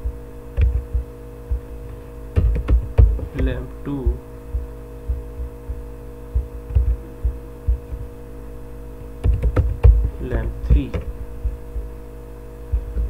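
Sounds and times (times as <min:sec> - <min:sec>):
soft low thumps: 0:00.0 - 0:08.3, 0:09.1 - 0:13.0
electrical hum: 0:00.0 - 0:13.0
faint steady tones: 0:00.0 - 0:13.0.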